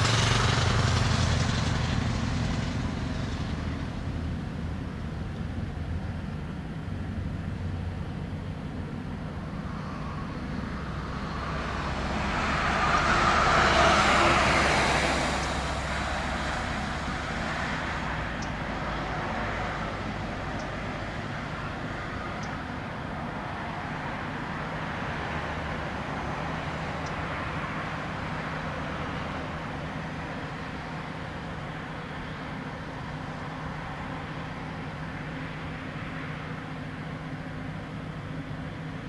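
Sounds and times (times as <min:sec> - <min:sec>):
diesel engine drone: 0:00.0 - 0:39.0
road vehicle passing: 0:00.0 - 0:39.0.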